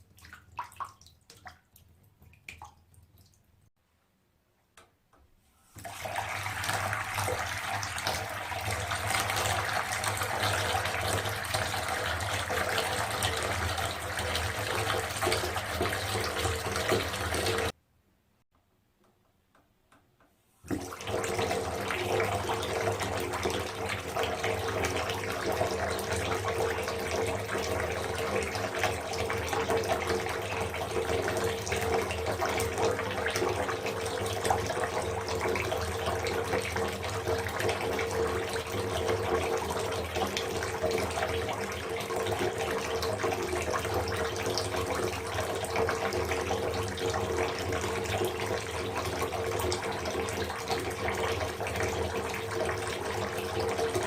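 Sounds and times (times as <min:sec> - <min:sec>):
tap water running into bathtub: 0:00.0 - 0:03.4, 0:05.7 - 0:17.8, 0:20.6 - 0:54.0.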